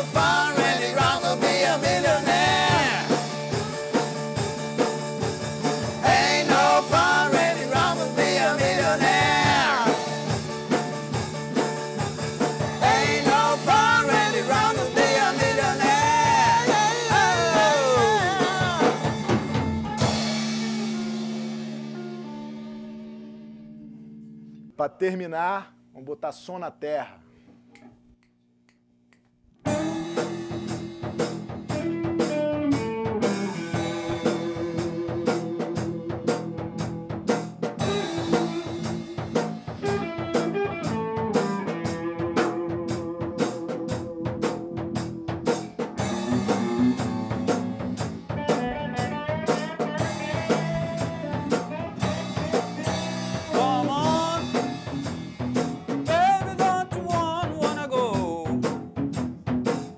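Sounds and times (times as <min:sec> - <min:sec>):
band playing blues instrumental: 0:00.0 - 0:24.4, 0:29.7 - 0:59.9
bending lead guitar notes: 0:00.0 - 0:24.7, 0:29.7 - 0:59.5.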